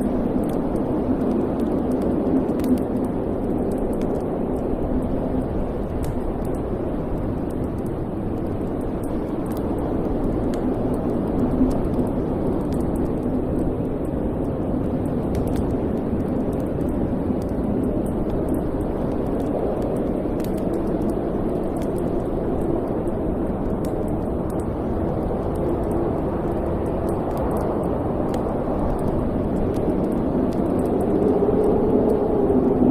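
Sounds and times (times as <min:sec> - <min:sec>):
faint fire crackles: 0:00.0 - 0:32.9
low rumble of flame: 0:00.0 - 0:32.9.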